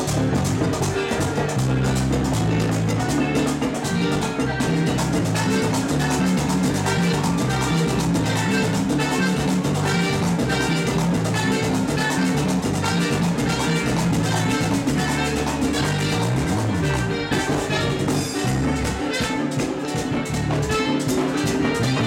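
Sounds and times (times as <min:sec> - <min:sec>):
live merengue band: 0:00.0 - 0:22.0.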